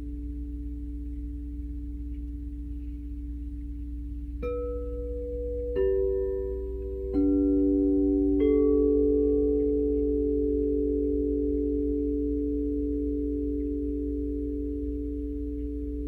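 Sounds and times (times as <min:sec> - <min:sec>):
singing bowls ringing: 0:00.0 - 0:16.0.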